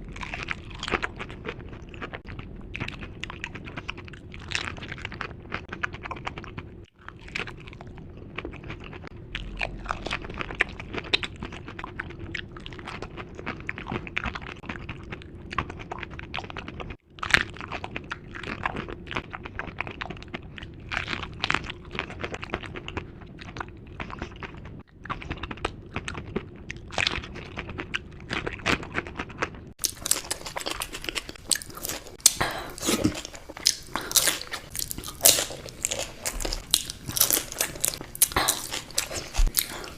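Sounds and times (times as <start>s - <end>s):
chewing and crunching crisp food: 0.0s - 39.9s.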